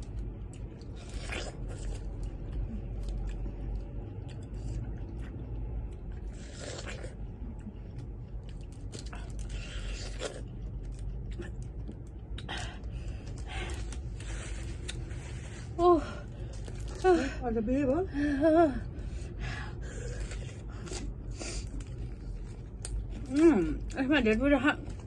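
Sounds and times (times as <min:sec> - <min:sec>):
chewing and crunching food: 0:00.0 - 0:17.2, 0:19.3 - 0:25.0
steady low hum: 0:00.0 - 0:25.0.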